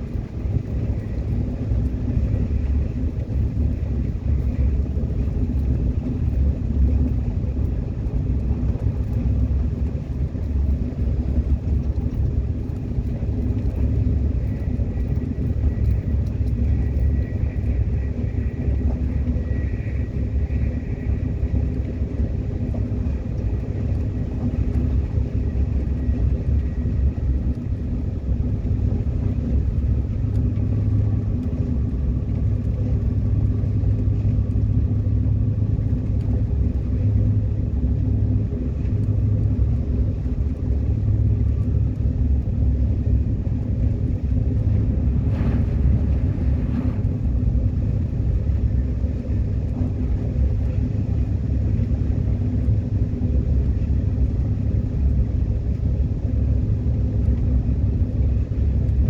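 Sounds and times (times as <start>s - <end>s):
subway wheels rumbling on track: 0.0s - 59.0s.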